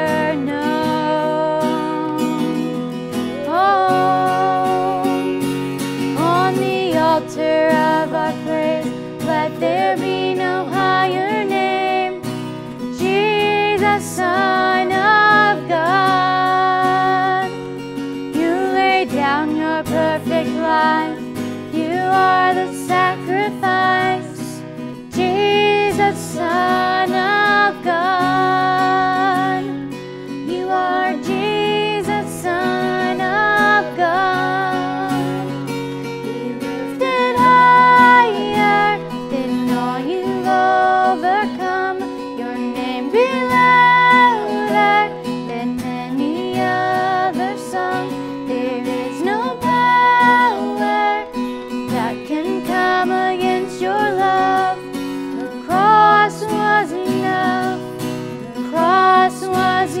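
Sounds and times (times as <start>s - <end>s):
acoustic guitar: 0.0s - 60.0s
woman singing: 0.0s - 60.0s.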